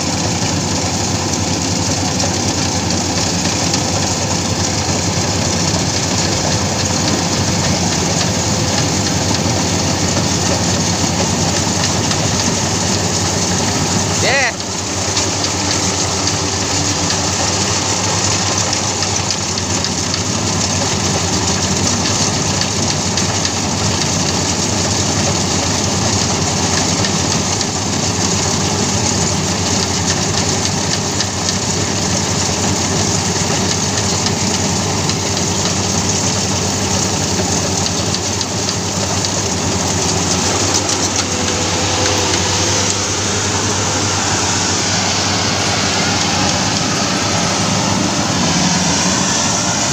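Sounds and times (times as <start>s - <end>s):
combine harvester engine drone: 0.0s - 49.9s.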